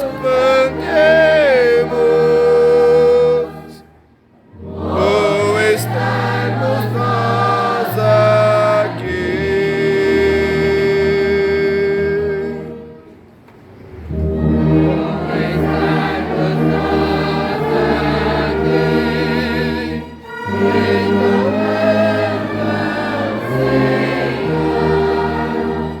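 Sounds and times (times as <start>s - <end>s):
choir singing a hymn: 0.0s - 13.1s, 14.1s - 26.0s.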